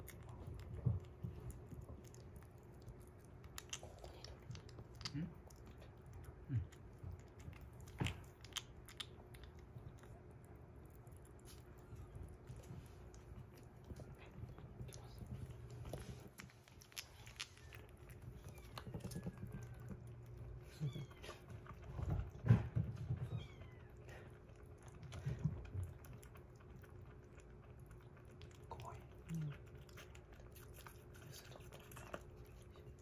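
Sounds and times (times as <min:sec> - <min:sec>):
kitten lapping and chewing food: 0:00.0 - 0:33.0.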